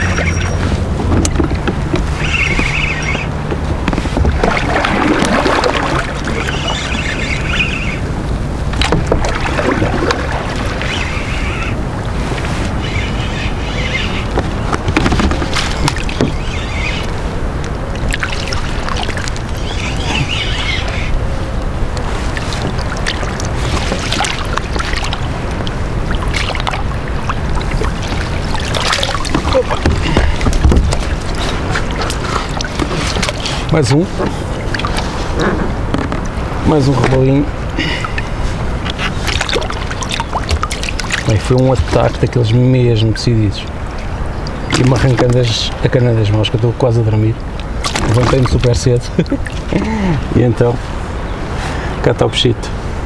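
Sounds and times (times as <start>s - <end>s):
water lapping against kayak: 0.0s - 52.1s
wind rumble on microphone: 0.0s - 53.0s.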